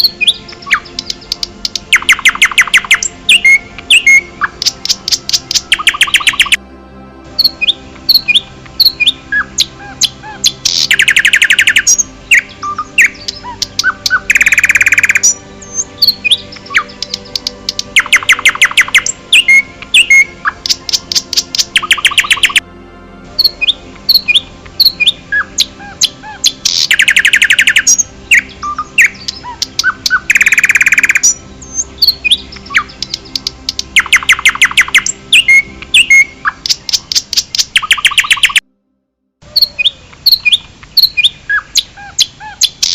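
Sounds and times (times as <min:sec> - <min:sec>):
bird chirps and whistles: 0:00.0 - 0:06.6, 0:07.4 - 0:17.4, 0:18.0 - 0:22.6, 0:23.4 - 0:38.6, 0:39.5 - 0:42.9
birds trilling: 0:00.0 - 0:06.6, 0:07.4 - 0:22.6, 0:23.4 - 0:38.6, 0:39.5 - 0:42.9.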